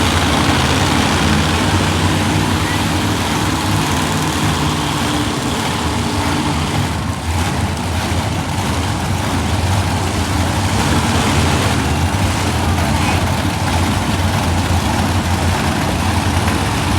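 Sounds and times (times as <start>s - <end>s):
monster truck engine running: 0.0s - 16.9s.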